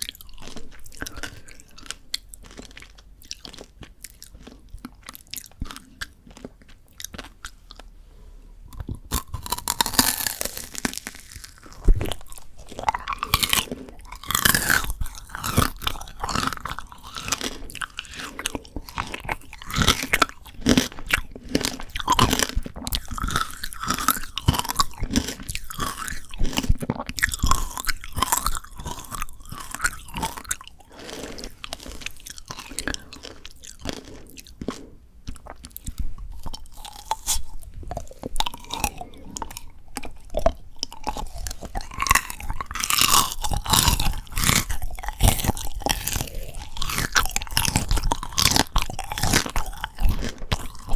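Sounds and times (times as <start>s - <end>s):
crunching frozen candied fruit: 0.0s - 8.0s, 8.7s - 50.9s.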